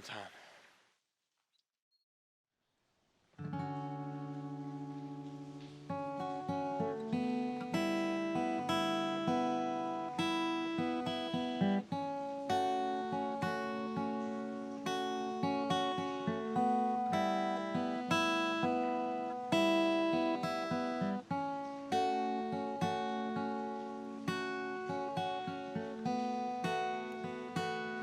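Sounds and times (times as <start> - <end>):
acoustic guitar music: 3.3 - 28.0.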